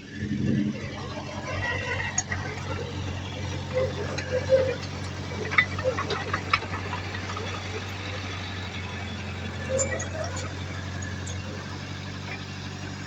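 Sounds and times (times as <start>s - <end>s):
diesel engine running: 0.0s - 13.0s
metal clanks: 0.4s - 12.4s
metallic clinks and squeaks: 1.2s - 12.4s.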